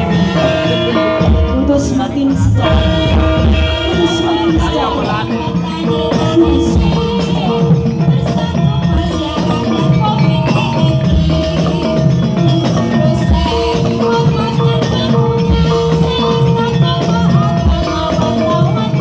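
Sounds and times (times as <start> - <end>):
hand drums: 0.0 - 19.0
jingling percussion: 0.0 - 19.0
metallophones playing melody: 0.0 - 19.0.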